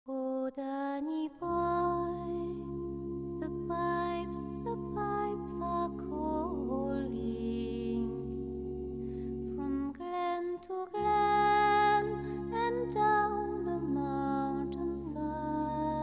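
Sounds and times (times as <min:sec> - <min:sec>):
slow music of layered tones: 0:01.3 - 0:16.0
steady low drone: 0:01.5 - 0:09.9, 0:11.0 - 0:16.0.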